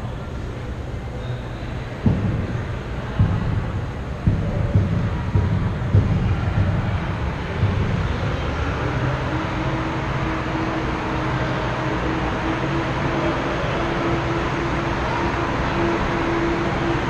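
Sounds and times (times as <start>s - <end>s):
faint steady hum: 0.0s - 17.0s
ice rink background rumble: 0.0s - 17.0s.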